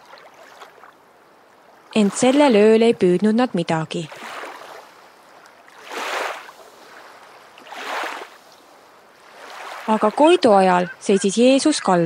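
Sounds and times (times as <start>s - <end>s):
faint wash of water: 0.0s - 3.2s, 4.0s - 11.1s
water sloshing: 0.0s - 12.0s.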